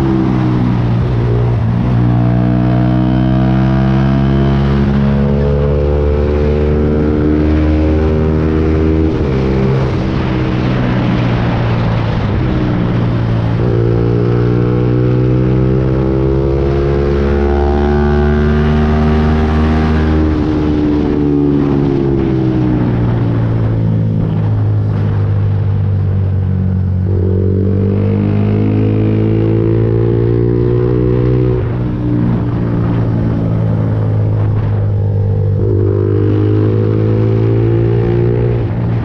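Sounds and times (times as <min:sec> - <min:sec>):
wind rush: 0:00.0 - 0:39.0.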